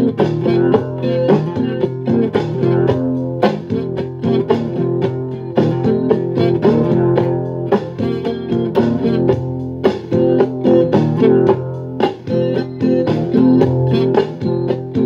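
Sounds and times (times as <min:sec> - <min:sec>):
guitar strummed in chords: 0:00.0 - 0:15.0.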